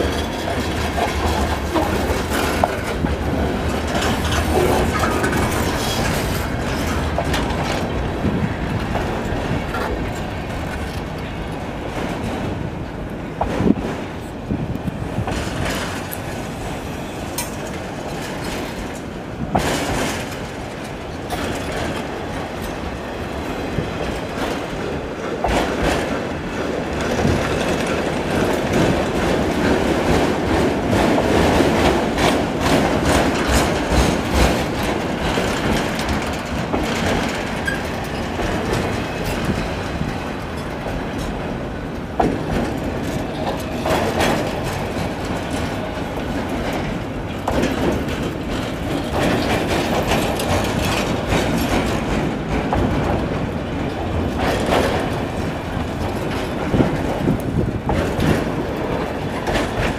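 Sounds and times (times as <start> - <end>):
train rumble: 0.0 - 59.9
train wheels clicking over rail joints: 0.0 - 59.9.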